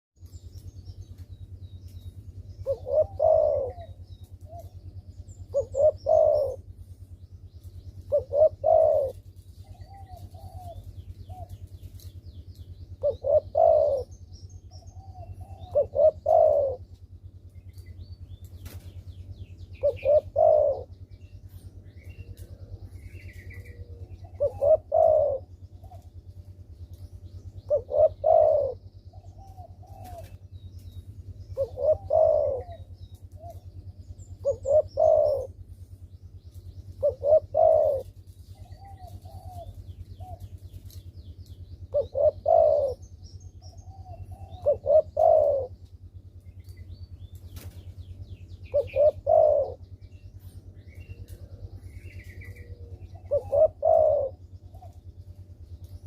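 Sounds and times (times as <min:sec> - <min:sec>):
dove cooing: 0:02.1 - 0:17.7, 0:18.6 - 0:56.0.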